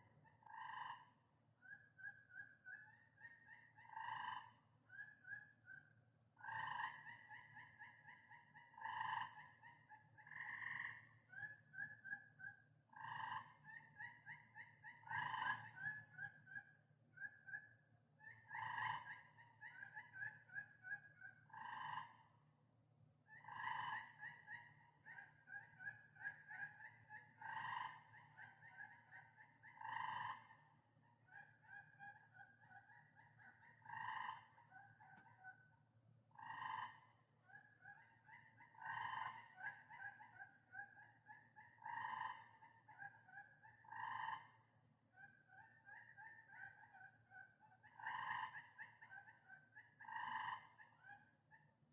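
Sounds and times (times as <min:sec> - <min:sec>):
tree frogs chirping: 0:00.3 - 0:22.2, 0:23.3 - 0:35.6, 0:36.3 - 0:51.7.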